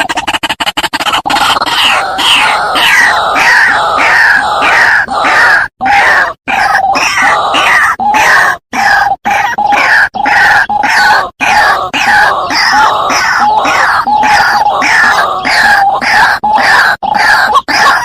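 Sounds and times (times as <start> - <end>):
bird harsh croaking calls: 0.0 - 18.0.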